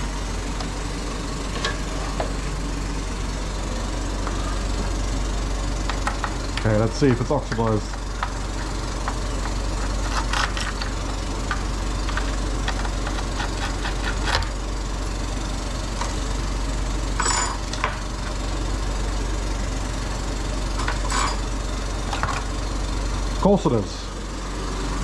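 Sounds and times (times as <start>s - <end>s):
fan whirring hum: 0.0s - 25.0s.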